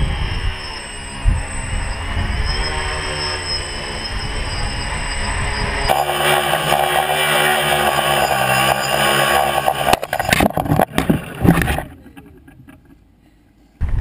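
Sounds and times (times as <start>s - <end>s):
motors winding down whine: 0.0s - 13.0s
drone motors and propellers droning: 0.0s - 13.2s.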